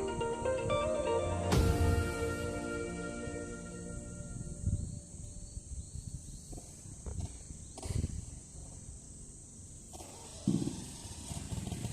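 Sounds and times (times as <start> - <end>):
high insect drone: 0.0 - 11.9.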